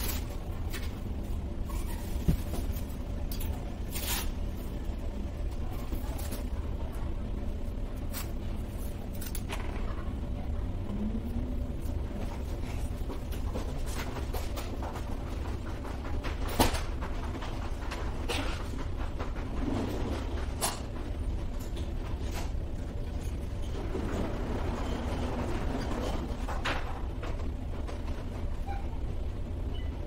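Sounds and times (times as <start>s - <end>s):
low rumble and hum: 0.0s - 30.0s.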